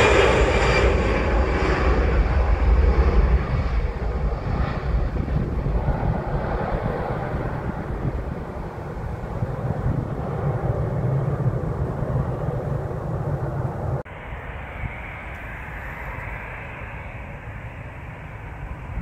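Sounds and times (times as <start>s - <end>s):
distant jet engine hiss: 0.0s - 19.0s
jet engines rumbling: 0.0s - 19.0s.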